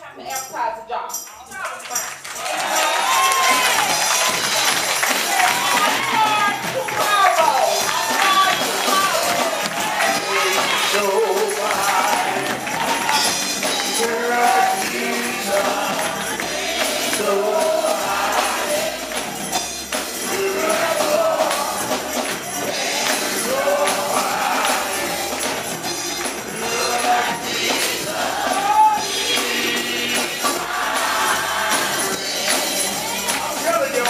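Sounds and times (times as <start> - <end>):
tambourine shaken and struck: 0.0 - 34.0
congregation singing: 2.2 - 34.0.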